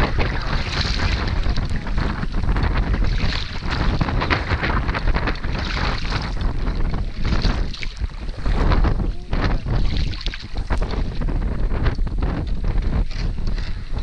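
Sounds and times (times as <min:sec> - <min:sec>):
kayak paddle splashing: 0:00.0 - 0:14.0
wind noise on microphone: 0:00.0 - 0:14.0.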